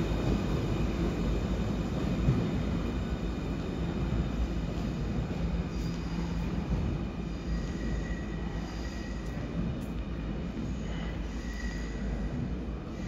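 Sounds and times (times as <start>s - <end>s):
high whine of train drive: 0.0s - 13.0s
train wheels rumbling on rails: 0.0s - 13.0s.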